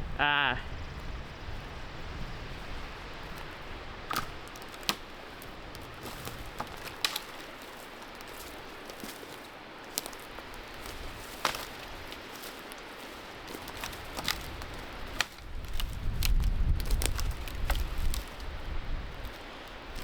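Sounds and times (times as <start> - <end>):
wind: 0.0 - 20.0
twigs snapping: 2.9 - 20.0.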